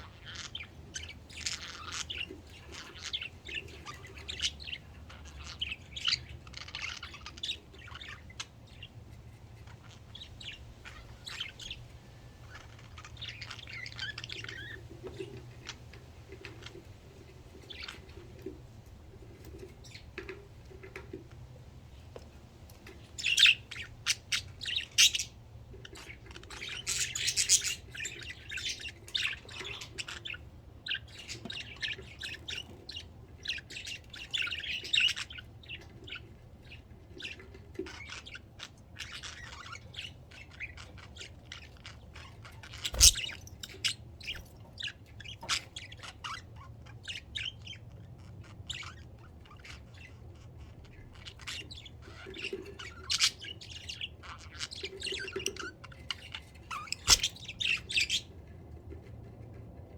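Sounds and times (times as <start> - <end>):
budgerigars chirping: 0.0 - 9.0, 9.6 - 16.8, 23.1 - 58.4.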